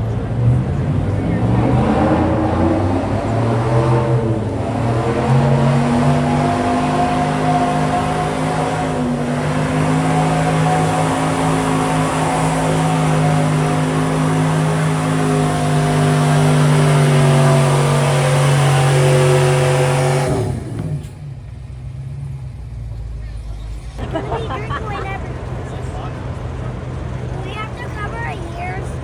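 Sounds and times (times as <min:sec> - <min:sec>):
pickup truck engine at high revs: 0:00.0 - 0:29.0.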